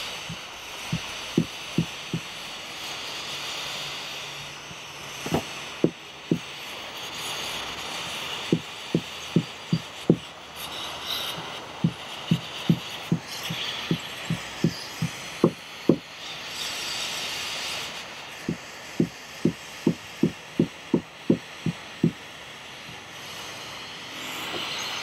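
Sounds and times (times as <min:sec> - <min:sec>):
torch hissing: 0:00.0 - 0:25.0.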